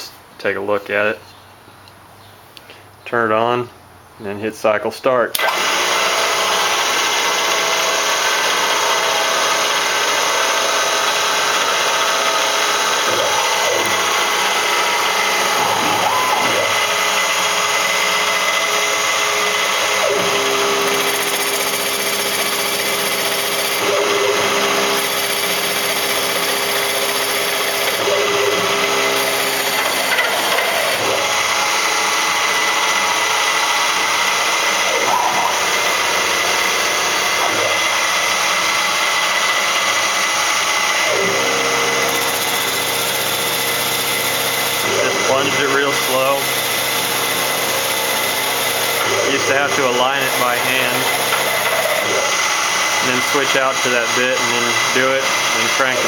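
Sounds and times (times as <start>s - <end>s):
stepper motors whining: 5.3s - 56.0s
milling machine spindle running: 5.4s - 56.0s.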